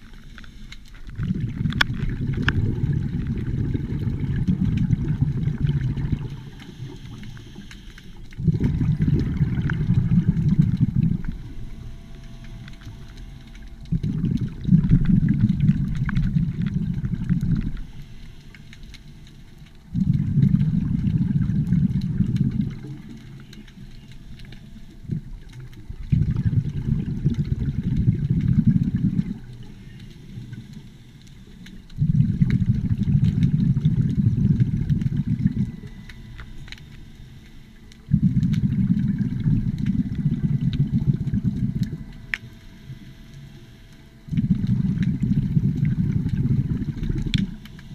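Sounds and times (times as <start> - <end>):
underwater exhaled bubbles rushing: 0.0 - 47.9.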